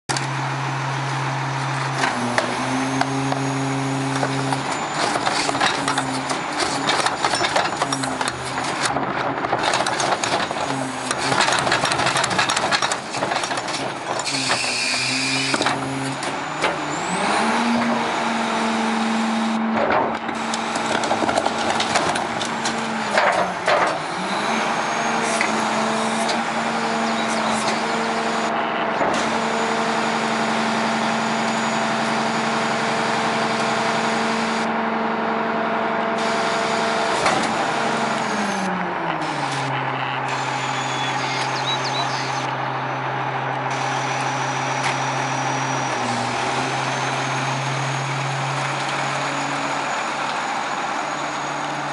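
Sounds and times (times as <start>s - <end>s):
diesel engine revving: 0.1s - 51.9s
hydraulic packer running: 0.1s - 51.9s.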